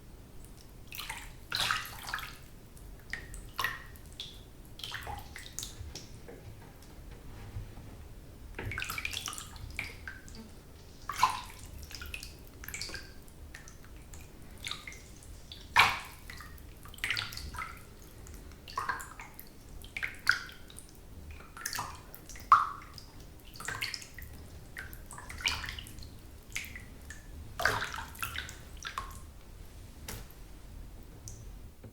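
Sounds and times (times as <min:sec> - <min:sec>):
water splashing in bathtub: 0:00.5 - 0:07.5, 0:08.5 - 0:29.4.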